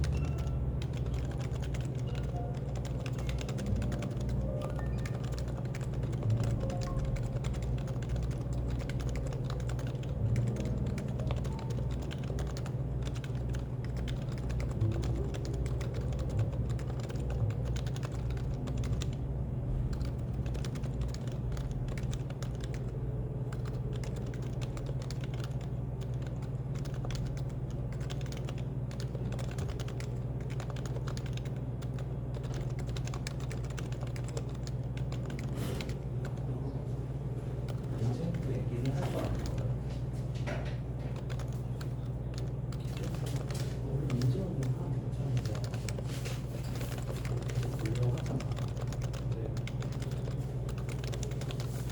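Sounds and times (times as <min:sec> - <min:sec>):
keyboard typing clicks: 0:00.0 - 0:19.2, 0:19.9 - 0:36.5, 0:37.6 - 0:51.9
low background hum: 0:00.0 - 0:51.9.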